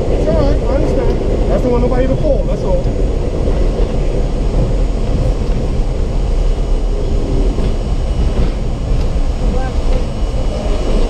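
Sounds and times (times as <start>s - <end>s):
loud low drone in subway car: 0.0s - 11.0s.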